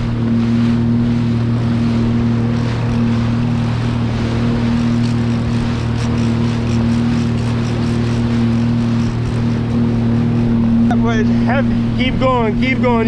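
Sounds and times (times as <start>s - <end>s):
rushing water: 0.0s - 13.0s
watercraft engine humming: 0.0s - 13.0s.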